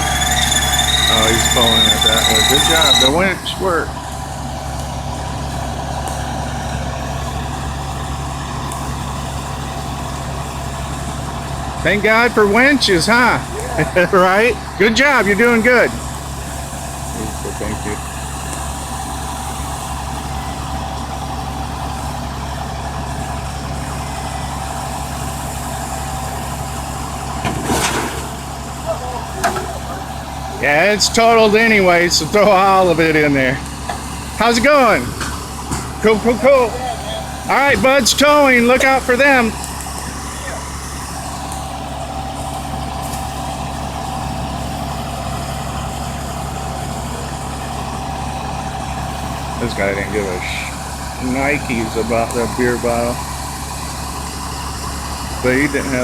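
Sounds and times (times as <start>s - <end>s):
truck engine idling: 0.0s - 27.4s, 28.2s - 56.0s.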